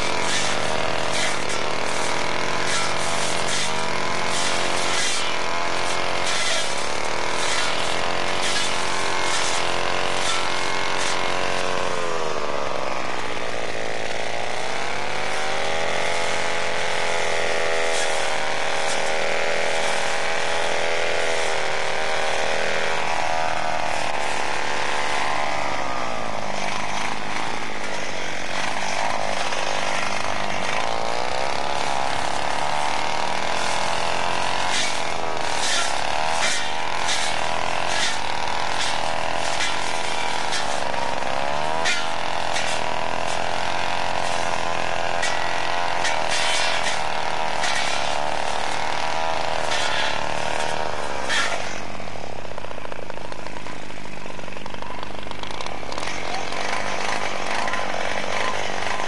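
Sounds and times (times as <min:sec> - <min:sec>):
brushcutter engine cutting grass: 0:00.0 - 0:59.0.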